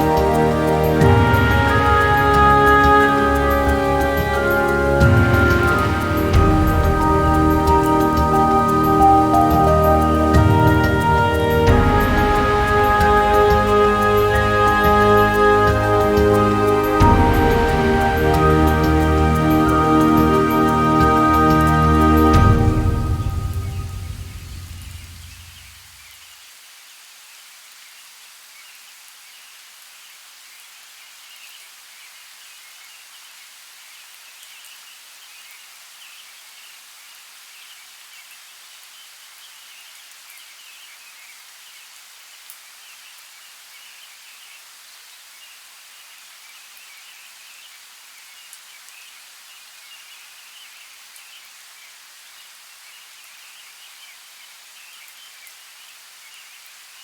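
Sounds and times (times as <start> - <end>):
light rain hissing: 0.0 - 57.0.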